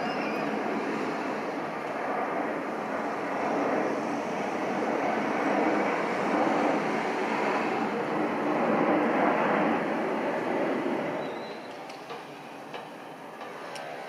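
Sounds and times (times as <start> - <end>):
jet airliner passing overhead: 0.0 - 14.0.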